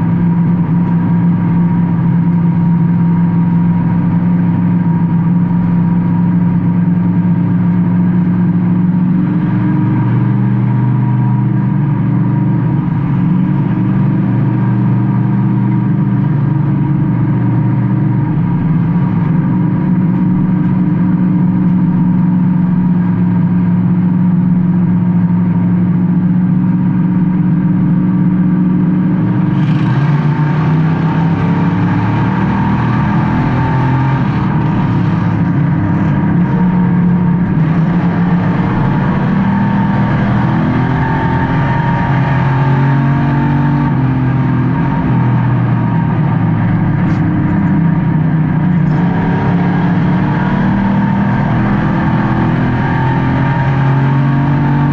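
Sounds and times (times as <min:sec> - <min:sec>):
race car engine: 0:00.0 - 0:54.9.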